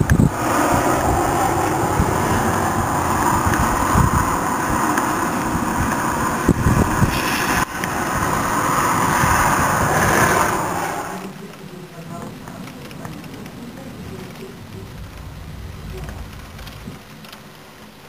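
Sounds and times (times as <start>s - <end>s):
wind buffeting on microphone: 0.0s - 17.8s
rushing wind: 0.0s - 18.0s.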